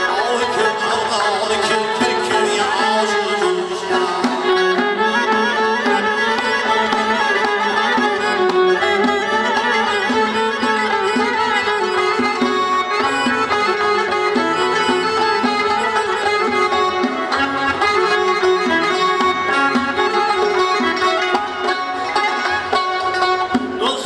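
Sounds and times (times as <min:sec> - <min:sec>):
bowed fiddle melody: 0:00.0 - 0:24.0
plucked lute: 0:00.0 - 0:24.0.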